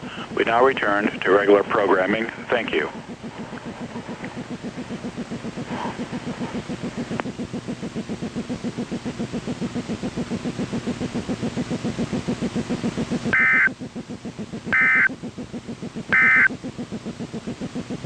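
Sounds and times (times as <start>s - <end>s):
rhythmic rubbing hum: 0.0s - 18.0s.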